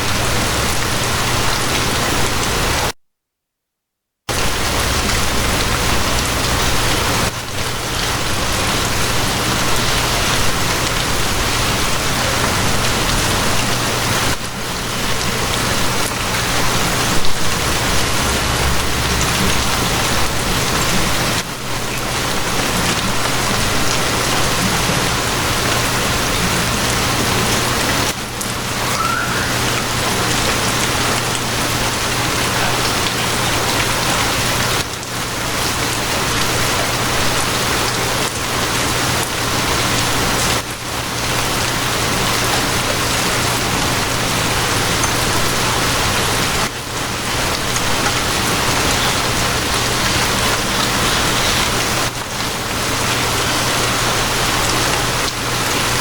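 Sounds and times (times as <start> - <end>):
steady rain: 0.0 - 3.0, 4.3 - 56.0.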